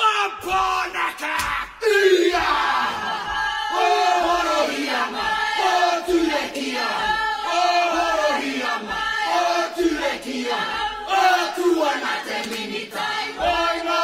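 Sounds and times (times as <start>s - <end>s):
group of voices singing: 1.8s - 14.0s.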